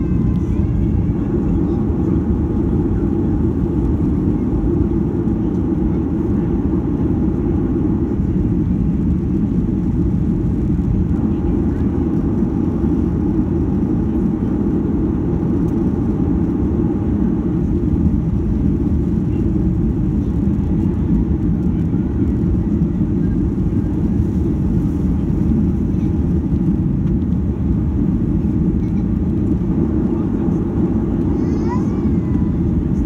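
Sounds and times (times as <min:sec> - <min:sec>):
jet engines: 0:00.0 - 0:33.0.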